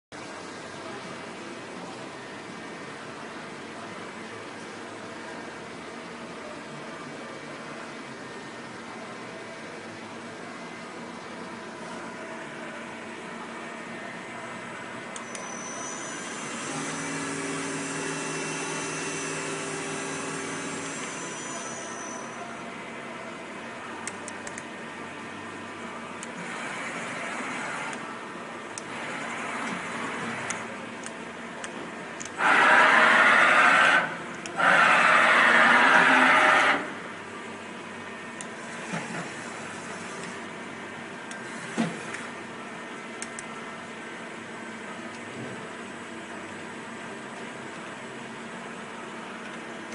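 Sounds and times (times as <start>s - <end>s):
steady mechanical hum: 0.1s - 49.9s
machine whine and hiss: 0.2s - 49.9s.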